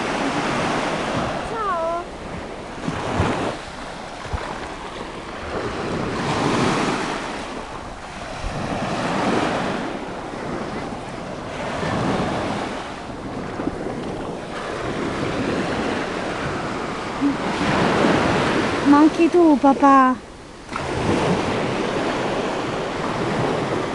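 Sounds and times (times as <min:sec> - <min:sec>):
small waves breaking on beach: 0:00.0 - 0:23.9.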